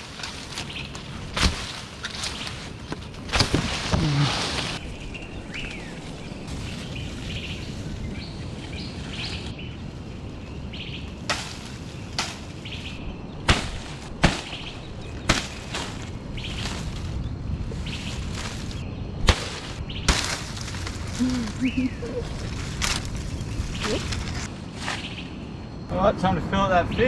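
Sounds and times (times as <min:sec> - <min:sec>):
palm frond rustling: 0:00.0 - 0:10.3, 0:10.9 - 0:25.4
birds chirping: 0:00.0 - 0:27.0.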